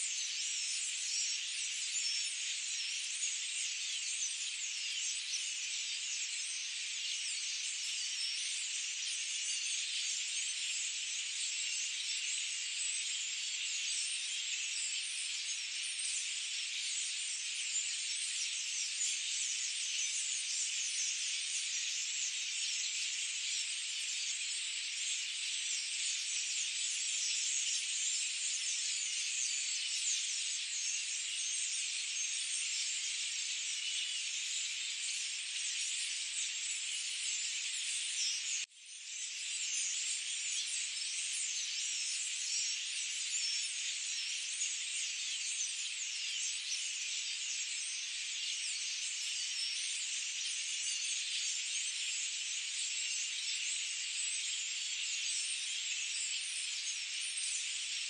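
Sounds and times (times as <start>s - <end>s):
chorus of birds and insects: 0.0s - 58.0s.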